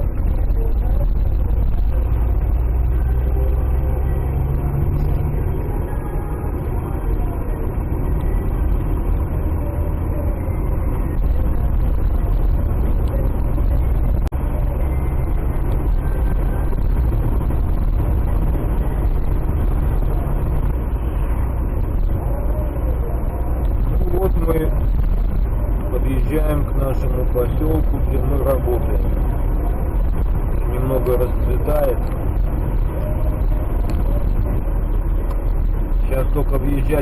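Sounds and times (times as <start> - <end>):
car interior engine and tyre rumble: 0.0 - 37.0.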